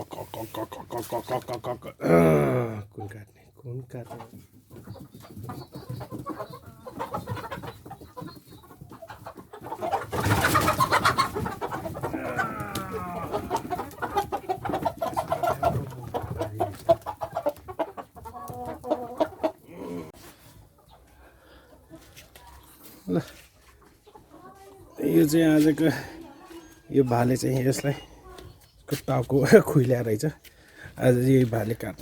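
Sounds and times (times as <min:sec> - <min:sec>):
chickens squawking and clucking: 0:00.0 - 0:03.1, 0:03.9 - 0:30.9.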